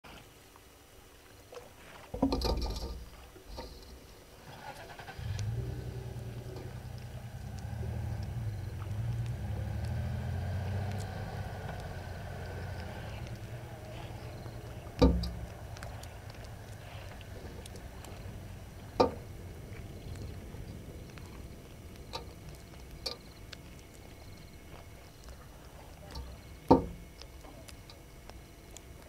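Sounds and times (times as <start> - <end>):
vehicle engine humming: 2.3 - 29.0.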